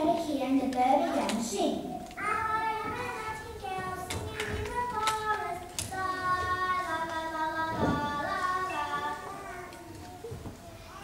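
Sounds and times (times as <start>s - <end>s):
children singing: 2.0s - 11.0s.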